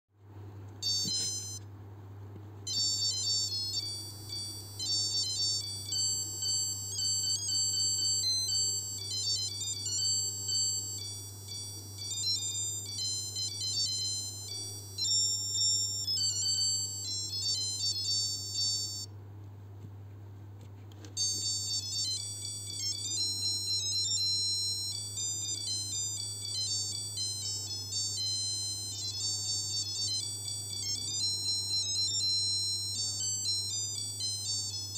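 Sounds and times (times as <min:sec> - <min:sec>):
steady low hum: 0:00.2 - 0:34.9
watch alarm beeping melody: 0:00.8 - 0:01.6, 0:02.7 - 0:19.1, 0:21.2 - 0:34.9.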